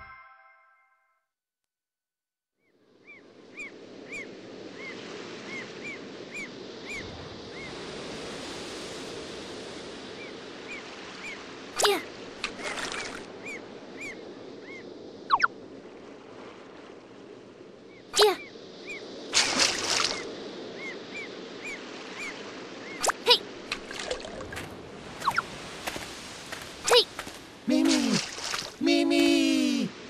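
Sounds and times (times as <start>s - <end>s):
surf washing: 3.4s - 30.0s.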